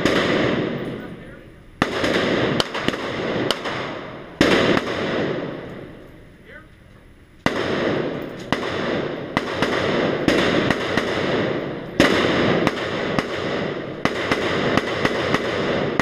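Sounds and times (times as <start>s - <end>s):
gunshots echoing indoors: 0.0s - 6.3s, 7.4s - 16.0s.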